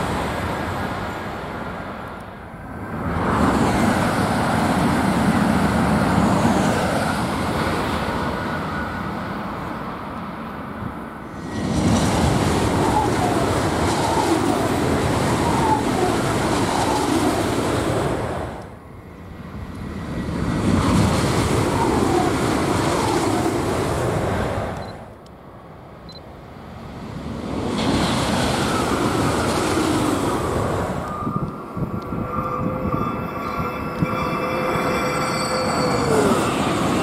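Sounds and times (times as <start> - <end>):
high-speed train passing: 0.0 - 37.0.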